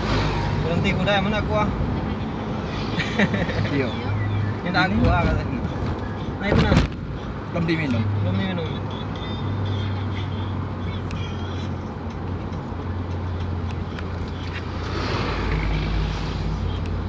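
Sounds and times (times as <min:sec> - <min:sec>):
tyre and road noise: 0:00.0 - 0:17.0
vehicle engine drone: 0:00.0 - 0:17.0.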